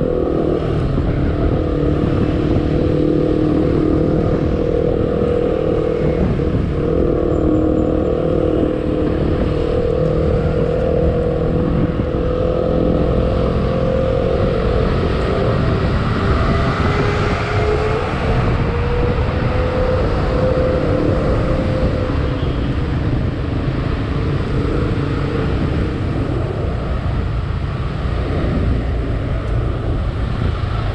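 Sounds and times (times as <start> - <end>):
humming tone: 0.0 - 30.8
wind rumble on microphone: 0.0 - 30.9.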